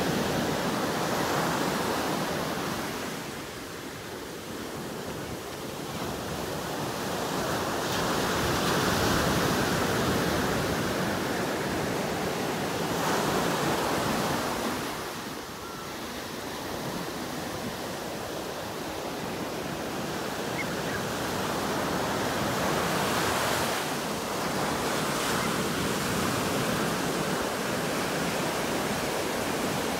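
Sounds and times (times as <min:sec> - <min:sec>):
waves breaking on beach: 0:00.0 - 0:29.9.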